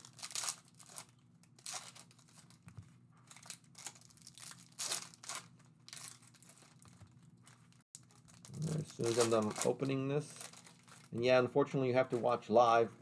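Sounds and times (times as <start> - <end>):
plastic wrapping crinkling and tearing: 0.0 - 2.6, 3.2 - 11.4.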